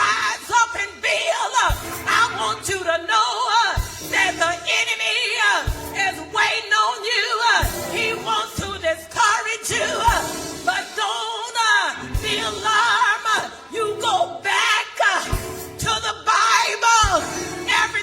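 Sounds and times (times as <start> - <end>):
gospel singing over instruments: 0.0 - 18.0.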